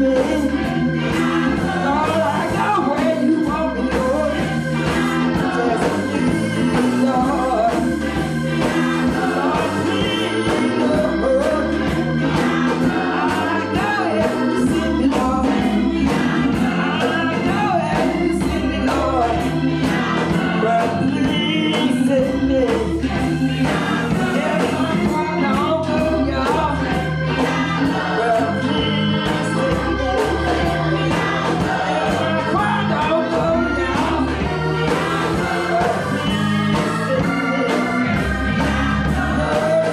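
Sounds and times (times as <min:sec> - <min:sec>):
gospel choir singing: 0:00.0 - 0:39.9
live band playing: 0:00.0 - 0:39.9
steady drum beat: 0:00.0 - 0:39.9.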